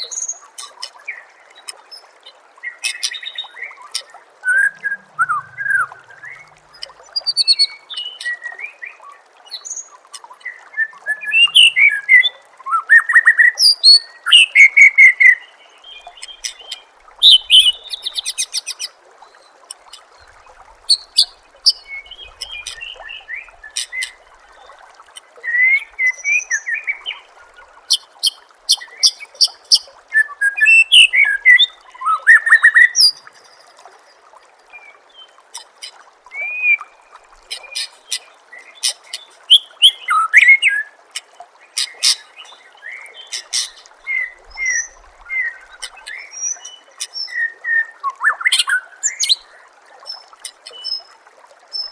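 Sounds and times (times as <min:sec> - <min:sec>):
faint water trickle: 0:00.0 - 0:51.9.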